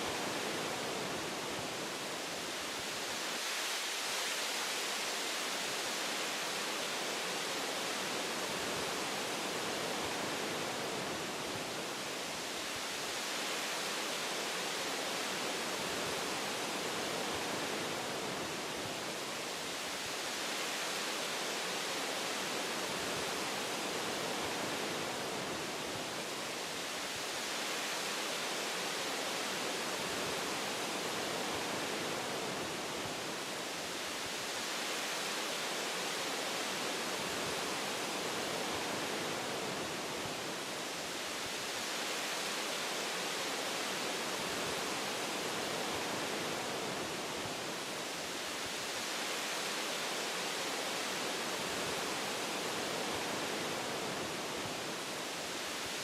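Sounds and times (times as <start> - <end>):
wind through tree branches: 0.0 - 56.0.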